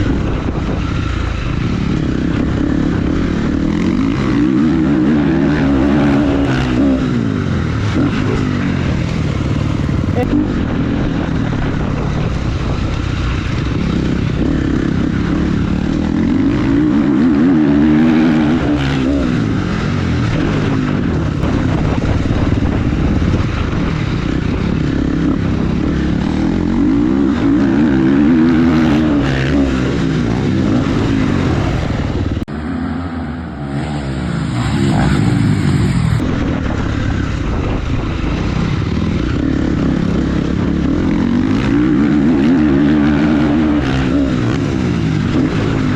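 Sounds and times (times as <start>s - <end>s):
motocross motorcycle engine revving: 0.0s - 45.9s.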